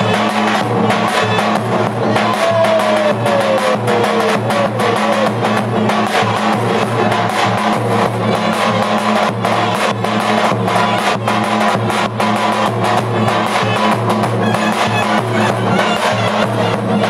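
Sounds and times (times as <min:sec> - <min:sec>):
wedding dance music with drum: 0:00.0 - 0:17.0.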